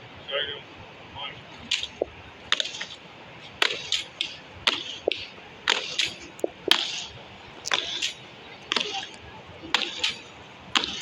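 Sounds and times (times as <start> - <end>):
squelching footsteps on wet ground: 1.6 - 11.0.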